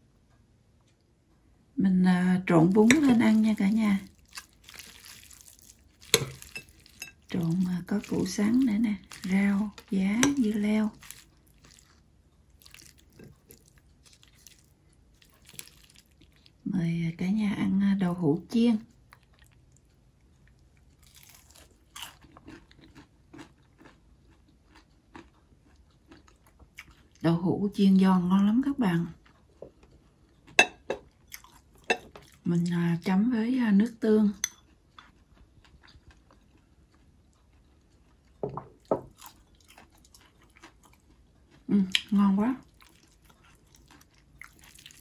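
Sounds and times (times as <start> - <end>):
person chewing crispy food: 2.8 - 16.6, 18.9 - 27.2, 29.0 - 32.5, 34.5 - 45.0.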